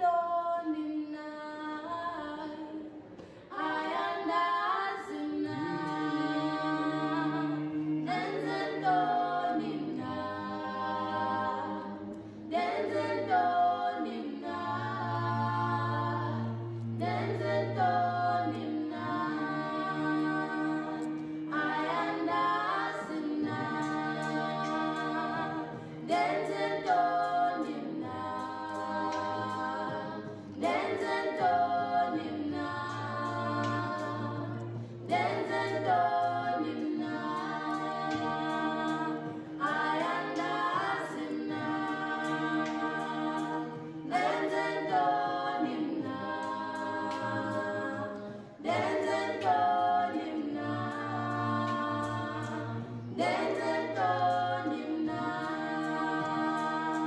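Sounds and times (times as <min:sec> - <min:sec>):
choir-like voices singing in harmony: 0:00.0 - 0:57.0.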